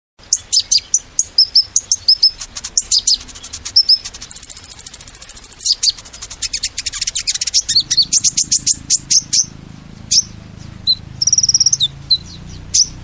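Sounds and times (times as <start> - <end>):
songbird chirping and whistling: 0.2 - 13.0
fast high bird trill: 0.3 - 13.0.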